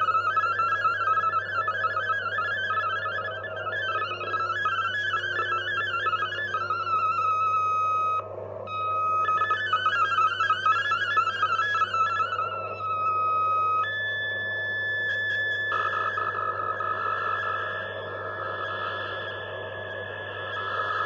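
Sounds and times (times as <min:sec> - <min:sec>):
low hum and band noise: 0:00.0 - 0:21.0
steady radio tone: 0:00.0 - 0:21.0
warbling data signal tones: 0:00.0 - 0:21.0.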